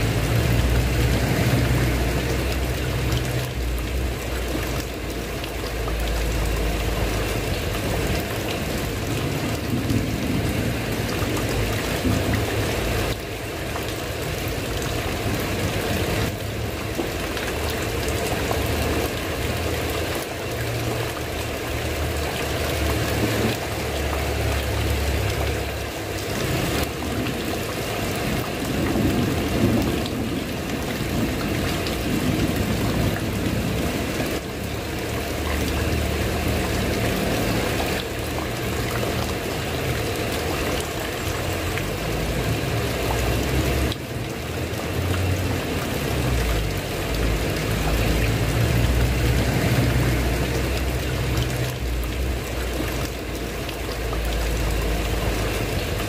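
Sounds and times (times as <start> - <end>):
heavy rain on a tiled roof: 0.0 - 56.0.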